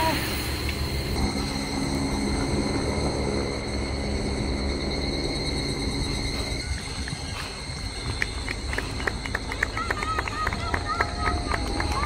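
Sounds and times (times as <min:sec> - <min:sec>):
high insect trill: 0:00.0 - 0:12.0
low rumble: 0:00.0 - 0:12.0.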